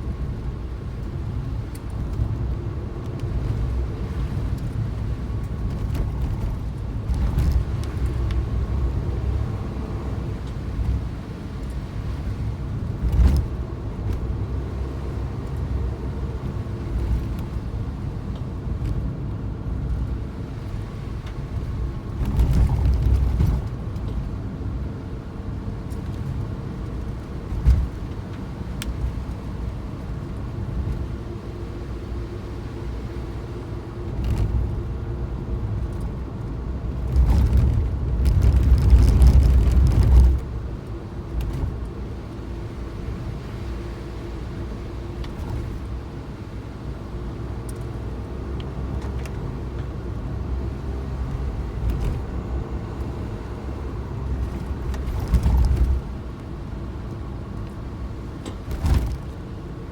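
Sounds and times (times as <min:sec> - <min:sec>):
car engine driving: 0:00.0 - 0:59.9
road rumble: 0:00.0 - 0:59.9.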